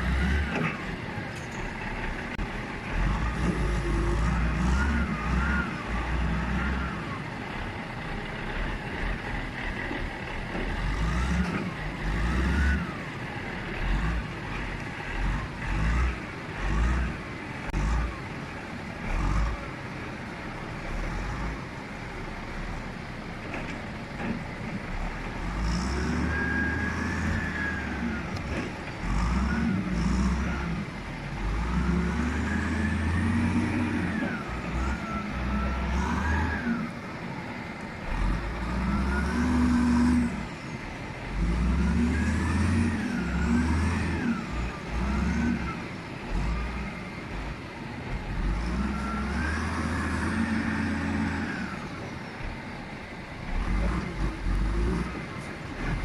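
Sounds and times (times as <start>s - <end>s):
wheel loader engine revving: 0.0s - 1.1s, 1.7s - 18.4s, 23.5s - 56.0s.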